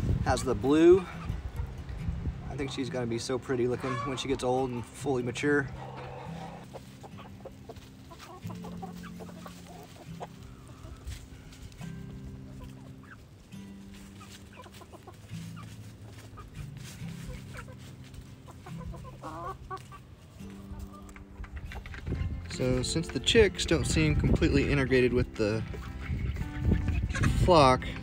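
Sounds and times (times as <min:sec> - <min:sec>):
background music: 0:00.0 - 0:28.0
chickens clucking: 0:00.3 - 0:28.0.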